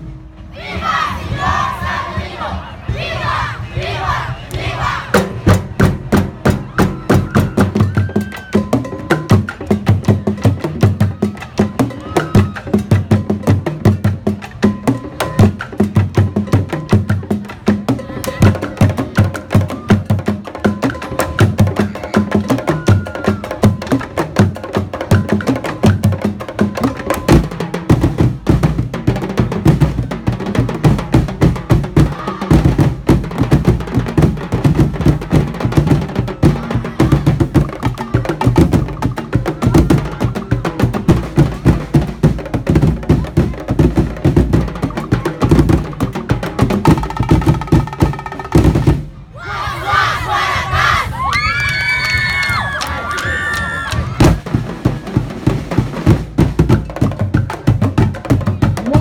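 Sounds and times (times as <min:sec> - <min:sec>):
fast drum rhythm: 0:05.1 - 0:49.1, 0:54.2 - 0:59.0.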